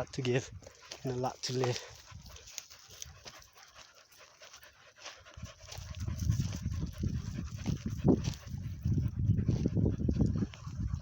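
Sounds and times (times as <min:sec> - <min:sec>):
dog panting rapidly: 0:00.4 - 0:11.0.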